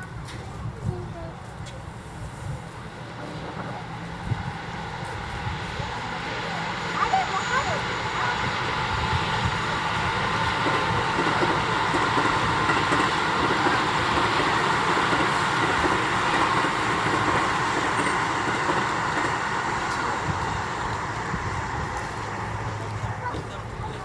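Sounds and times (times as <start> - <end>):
electric train running past: 0.0 - 24.0.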